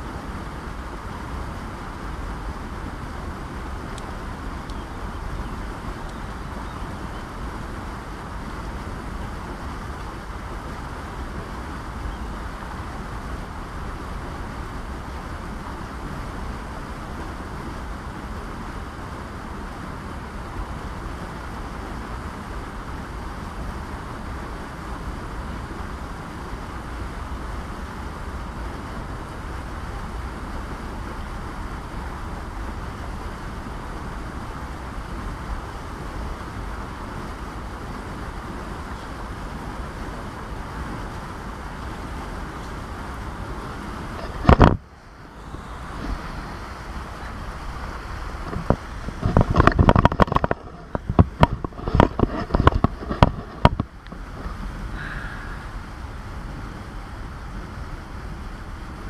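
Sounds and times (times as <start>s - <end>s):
river water rushing: 0.0s - 59.0s
wind rumble on microphone: 0.0s - 59.0s.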